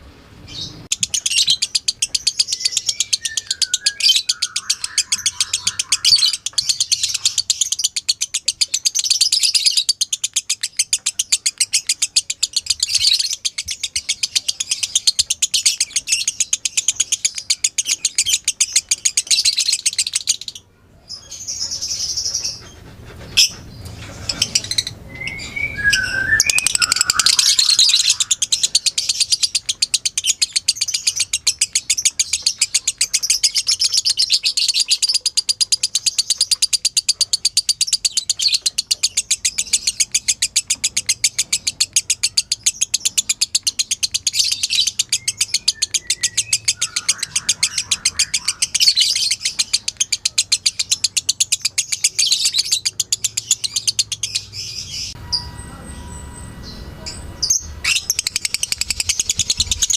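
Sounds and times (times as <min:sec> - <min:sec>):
lovebird chattering: 0:00.6 - 0:20.6, 0:21.2 - 0:55.5, 0:56.6 - 0:59.9.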